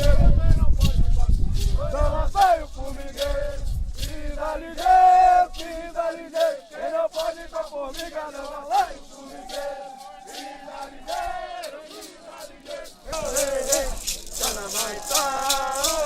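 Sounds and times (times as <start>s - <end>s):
men chanting together: 0.0s - 16.0s
steady percussive beat: 0.0s - 16.0s.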